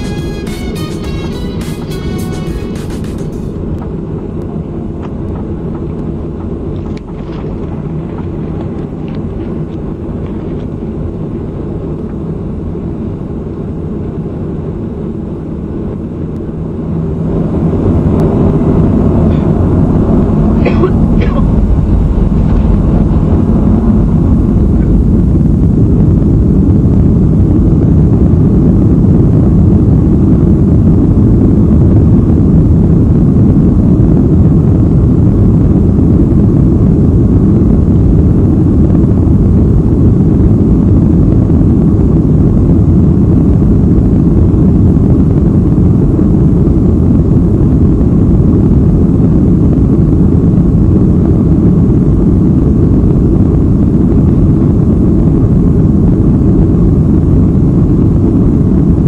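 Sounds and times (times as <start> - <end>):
jet engines at takeoff power: 0.0 - 59.0.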